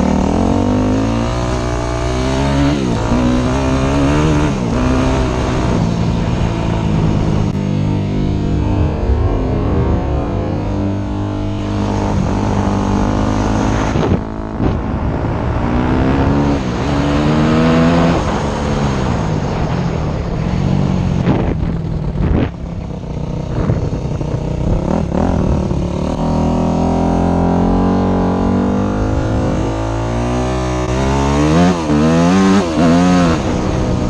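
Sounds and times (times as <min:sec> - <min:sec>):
dirt bike engine revving: 0:00.0 - 0:19.8, 0:20.6 - 0:34.0.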